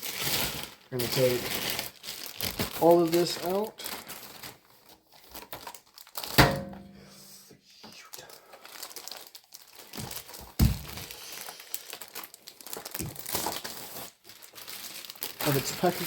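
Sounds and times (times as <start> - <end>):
packaging crinkling and rustling: 0.0 - 6.8, 8.1 - 16.0.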